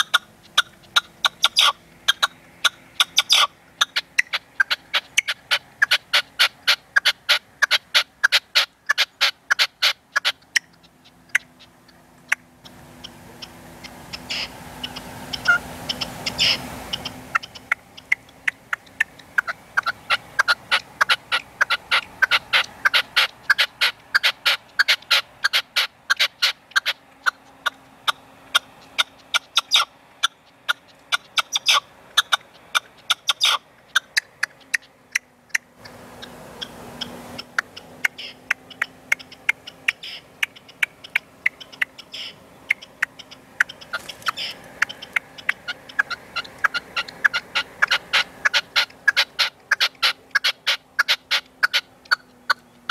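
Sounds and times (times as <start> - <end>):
partridge clicking calls: 0.0 - 52.9.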